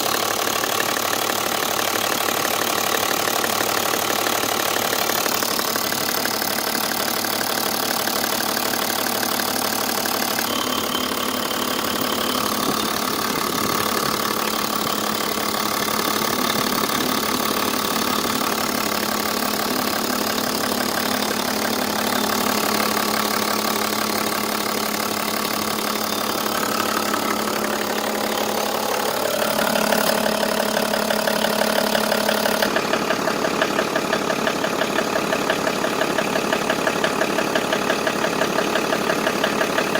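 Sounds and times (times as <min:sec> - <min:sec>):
diesel engine idling with knock: 0:00.0 - 0:39.9.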